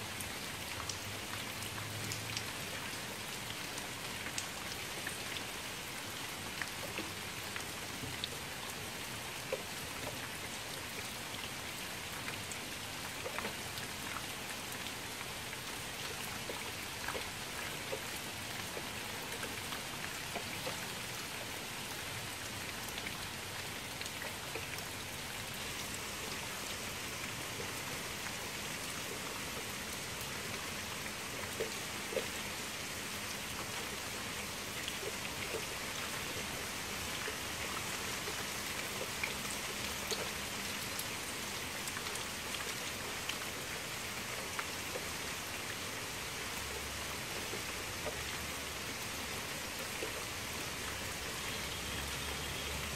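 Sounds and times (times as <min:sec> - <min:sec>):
rain hissing on water: 0:00.0 - 0:52.9.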